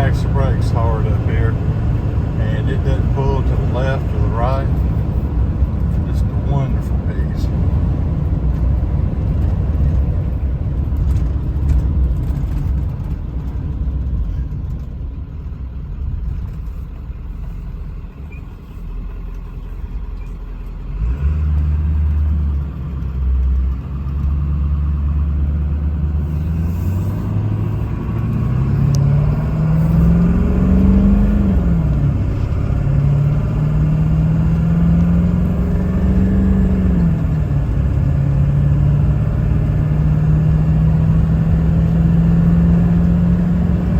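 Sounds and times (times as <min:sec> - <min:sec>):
diesel truck engine: 0:00.0 - 0:43.9
road rumble: 0:00.0 - 0:43.9.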